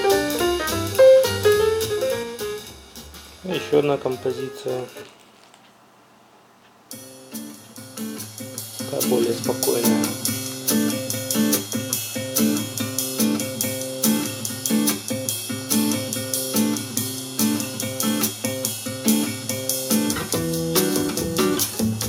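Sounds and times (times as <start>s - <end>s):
guitar music through speakers: 0.0s - 5.1s, 6.9s - 22.0s.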